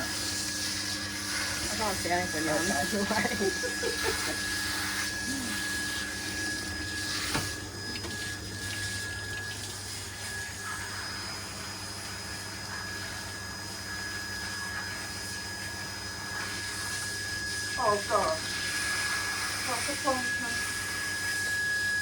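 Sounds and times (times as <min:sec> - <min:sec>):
shower water spraying on dog: 0:00.0 - 0:22.0.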